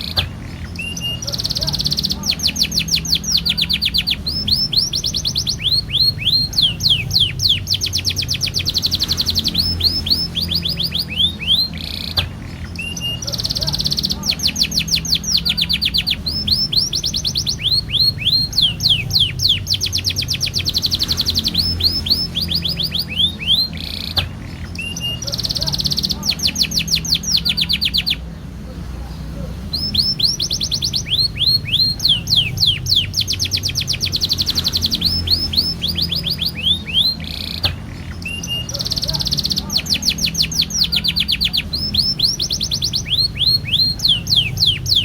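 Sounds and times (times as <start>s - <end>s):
canary singing trills: 0.0s - 45.0s.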